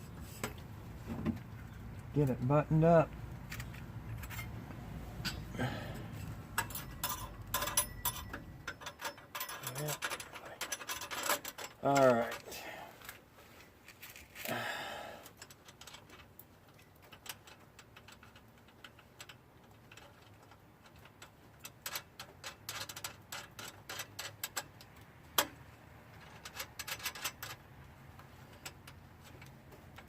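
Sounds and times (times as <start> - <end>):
metallic clicks and rattles: 3.1 - 13.2, 15.3 - 30.0.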